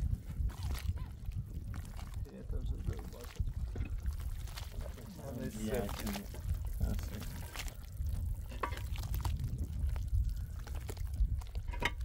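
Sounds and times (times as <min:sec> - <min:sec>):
wet mortar squelching: 0:00.0 - 0:12.0.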